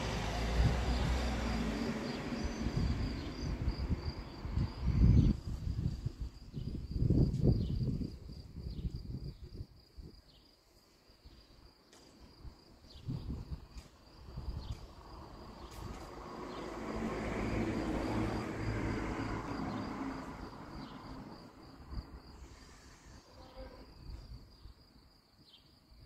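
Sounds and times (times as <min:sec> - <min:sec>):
crickets chirring: 0:00.2 - 0:26.0.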